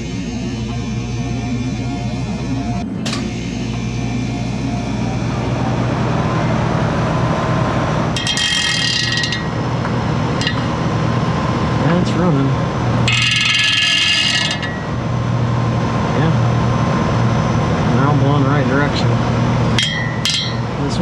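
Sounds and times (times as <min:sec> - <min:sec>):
fan motors humming: 0:00.0 - 0:21.0.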